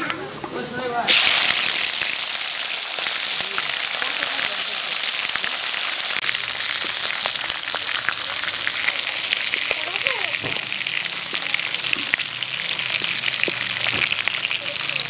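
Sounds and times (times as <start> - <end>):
fish frying in hot oil: 0.3 - 15.0.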